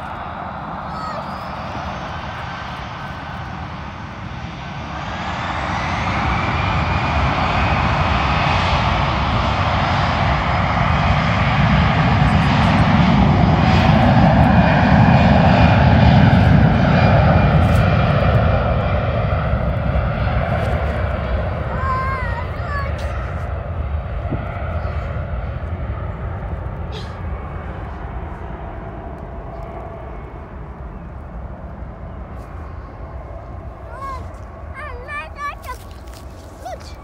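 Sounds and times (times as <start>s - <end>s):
jet engines powering up: 0.0s - 32.3s.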